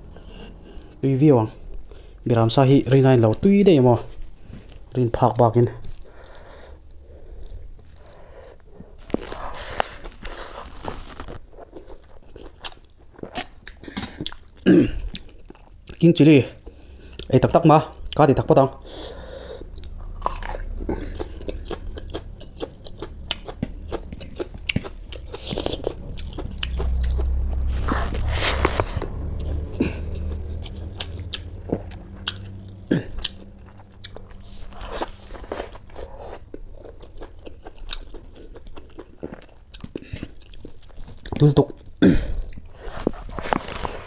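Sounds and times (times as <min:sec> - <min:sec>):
person crunching and chewing: 0:05.8 - 0:16.0, 0:18.8 - 0:44.0.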